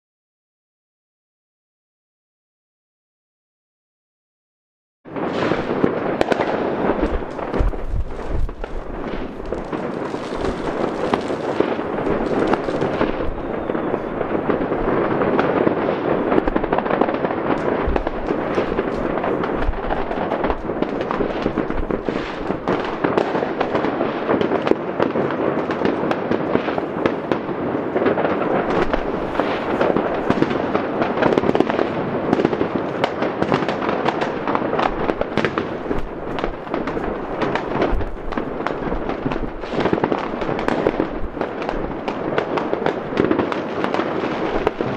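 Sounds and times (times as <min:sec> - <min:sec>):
fireworks and firecrackers crackling: 0:05.1 - 0:44.9.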